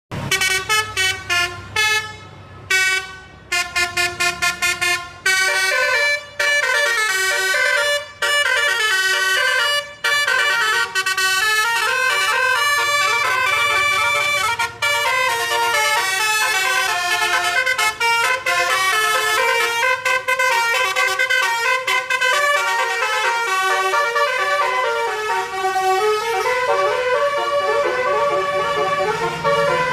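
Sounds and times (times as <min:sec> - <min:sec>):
multi-tone air horn playing a tune: 0:00.2 - 0:29.9.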